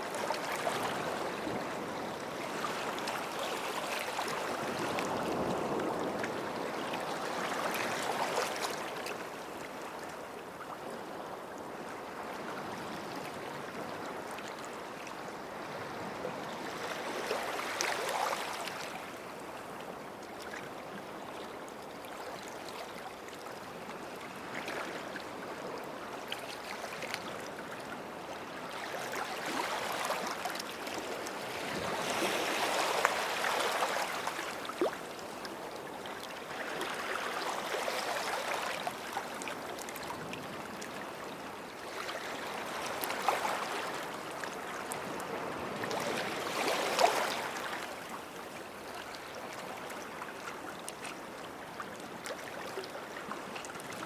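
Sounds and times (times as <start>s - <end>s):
small waves washing on beach: 0.0s - 54.0s.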